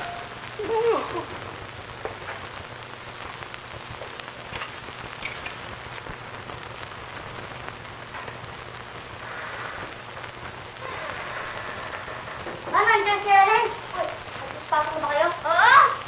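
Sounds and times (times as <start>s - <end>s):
low hum: 0.0s - 15.0s
faint crackles: 0.0s - 16.0s
film soundtrack surface hiss: 0.0s - 16.0s.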